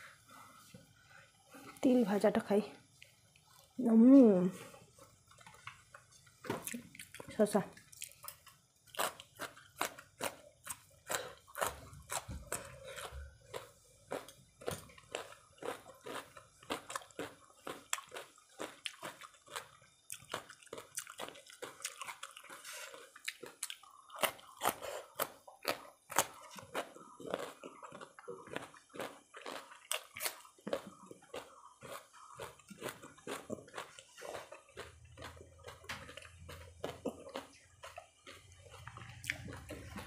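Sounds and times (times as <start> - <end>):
cucumber crunching while chewed: 5.2 - 40.0.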